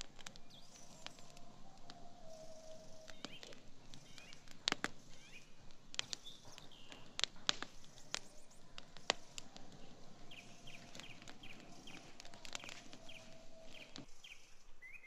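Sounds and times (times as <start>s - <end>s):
campfire crackling and popping: 0.0s - 14.9s
small birds chirping: 0.0s - 15.0s.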